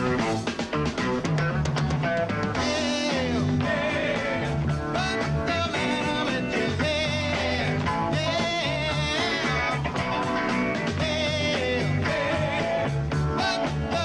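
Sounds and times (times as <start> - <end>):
rock music with singing: 0.0 - 14.0.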